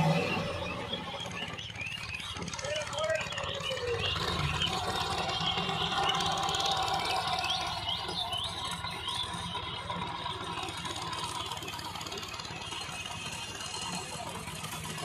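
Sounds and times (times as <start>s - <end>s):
tractor diesel engine rumbling: 0.0s - 15.0s.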